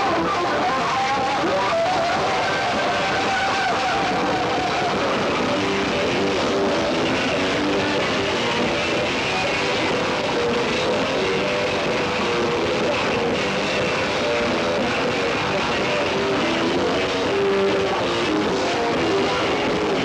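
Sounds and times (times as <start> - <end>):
rock band playing live: 0.0 - 20.0.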